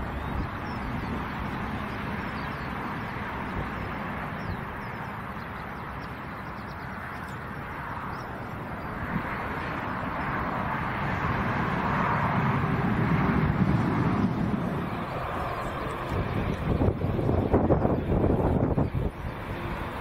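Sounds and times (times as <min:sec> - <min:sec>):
jet engines rushing hum: 0:00.0 - 0:20.0.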